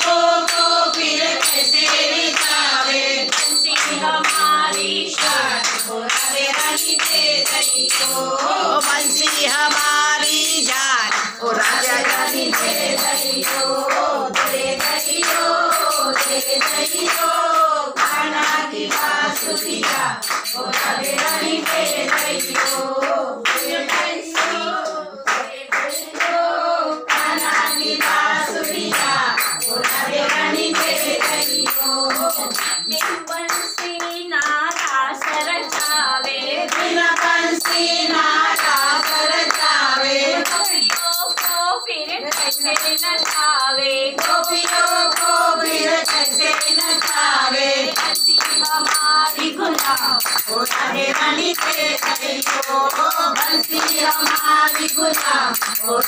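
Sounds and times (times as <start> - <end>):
jingling percussion: 0.0 - 56.0
rhythmic hand-clapping: 0.0 - 56.0
women singing together: 0.0 - 56.0.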